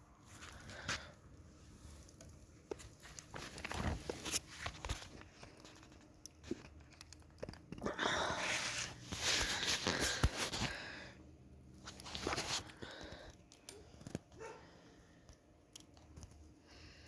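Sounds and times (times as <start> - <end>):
campfire crackling: 0.2 - 17.0.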